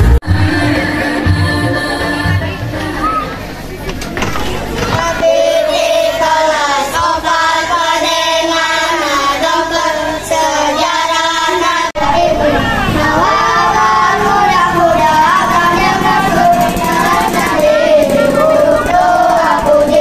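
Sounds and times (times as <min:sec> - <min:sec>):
children singing over sound system: 0:00.0 - 0:03.6, 0:04.5 - 0:20.0.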